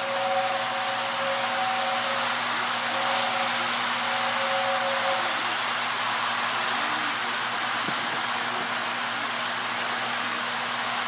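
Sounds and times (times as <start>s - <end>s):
toy train wheels whirring: 0.0s - 11.0s.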